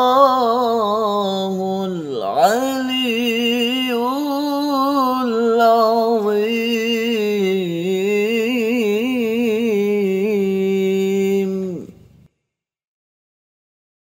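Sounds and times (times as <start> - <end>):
man chanting recitation: 0.0 - 12.1.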